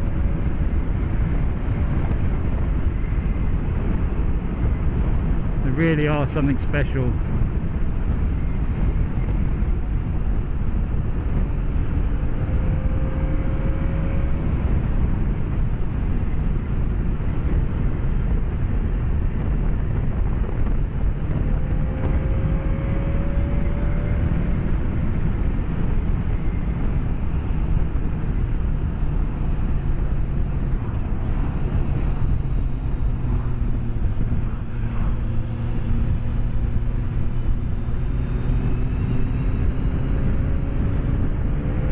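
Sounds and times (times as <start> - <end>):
wind rush: 0.0 - 41.9.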